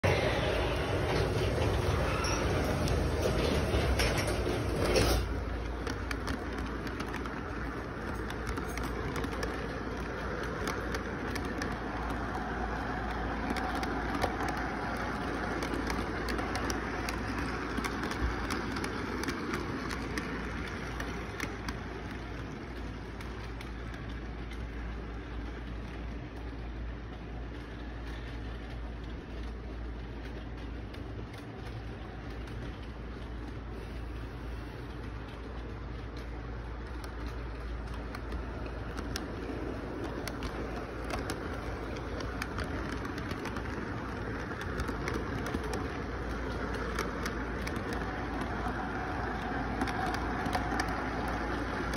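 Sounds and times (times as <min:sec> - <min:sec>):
wheel clicks: 0:00.1 - 0:33.7, 0:34.8 - 0:51.9.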